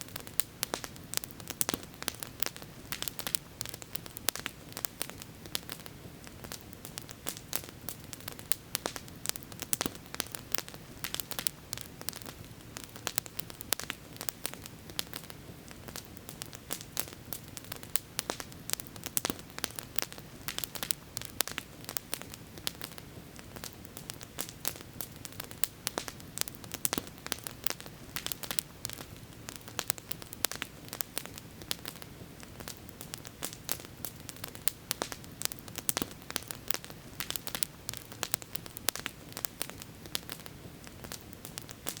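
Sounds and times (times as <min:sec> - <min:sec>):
campfire crackling and popping: 0:00.0 - 0:42.0
low steady hiss: 0:00.0 - 0:42.0.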